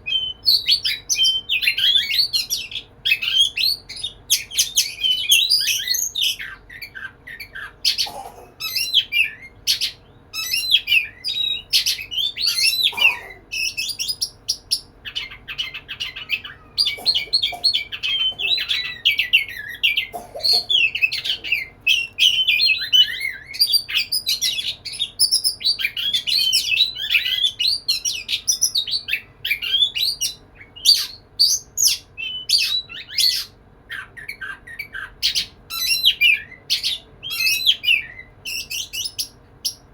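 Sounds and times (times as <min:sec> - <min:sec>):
bird singing chirps and whistles: 0:00.0 - 0:08.0, 0:08.6 - 0:39.8.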